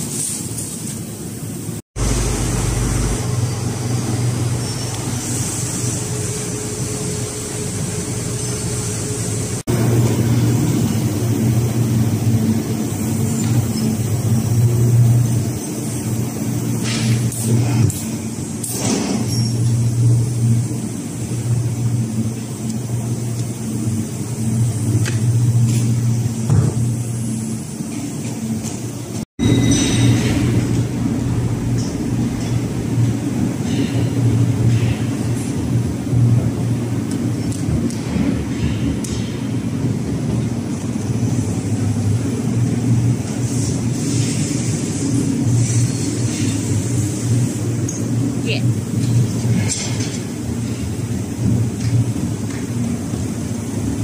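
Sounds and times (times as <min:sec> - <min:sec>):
workshop machinery hum: 0:00.0 - 0:54.0.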